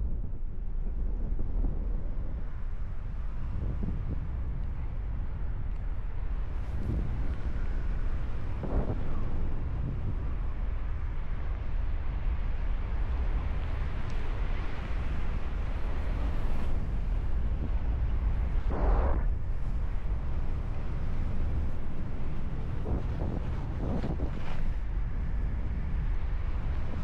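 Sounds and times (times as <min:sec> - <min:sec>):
strong wind on microphone: 0:00.0 - 0:27.0.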